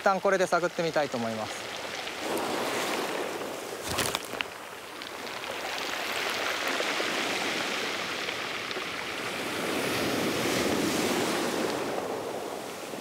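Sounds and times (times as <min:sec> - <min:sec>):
ocean waves washing ashore: 0:00.0 - 0:13.0.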